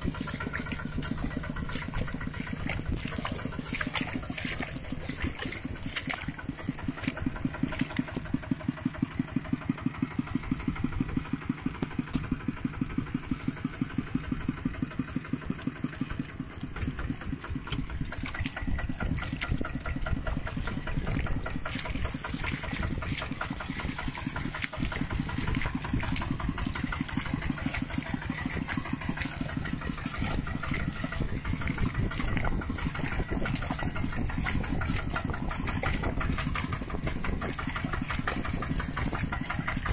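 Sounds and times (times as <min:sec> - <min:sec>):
tractor engine pulsing: 0:00.0 - 0:39.9.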